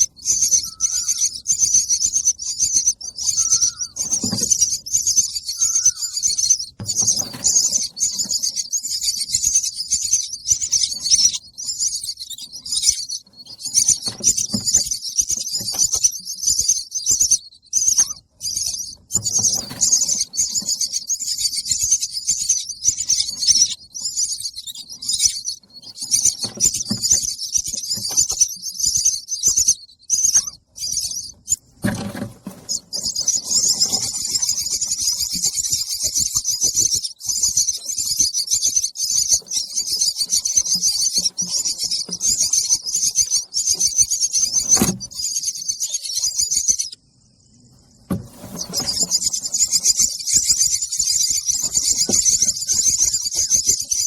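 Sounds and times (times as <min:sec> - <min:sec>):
baby bird chirping: 0:00.0 - 0:47.1, 0:48.1 - 0:54.0.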